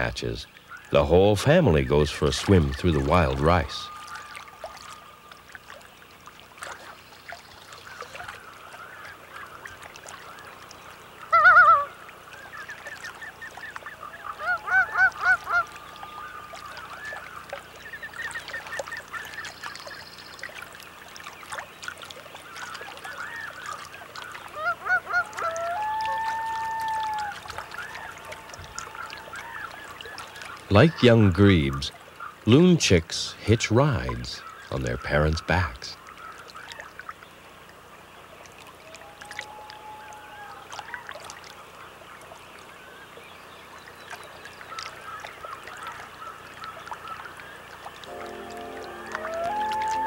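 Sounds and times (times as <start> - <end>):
loons calling: 0.0 - 50.0.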